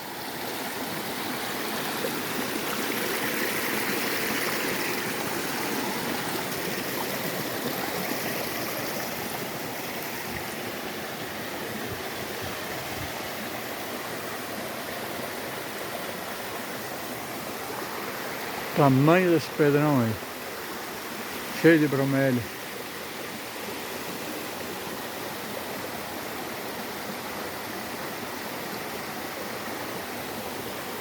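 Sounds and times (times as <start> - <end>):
stream water running over rocks: 0.0 - 31.0.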